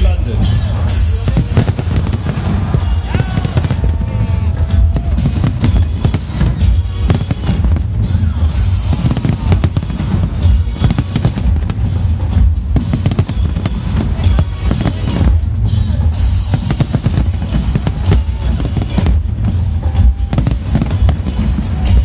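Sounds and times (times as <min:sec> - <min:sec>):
fireworks bangs and crackles: 0:00.0 - 0:22.0
loud music with drums: 0:00.0 - 0:22.0.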